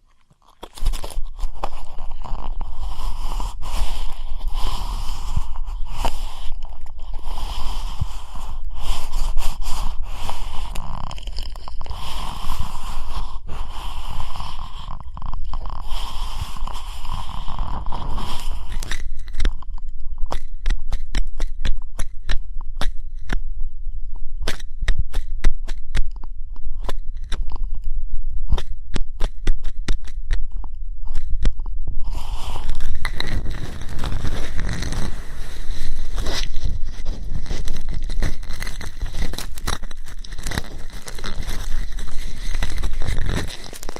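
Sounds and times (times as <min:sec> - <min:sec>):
tools scratching and rubbing microphone: 0:00.0 - 0:23.4, 0:28.5 - 0:43.9
sharp clicks and scrapes: 0:00.0 - 0:23.6, 0:24.4 - 0:27.9, 0:28.5 - 0:43.9.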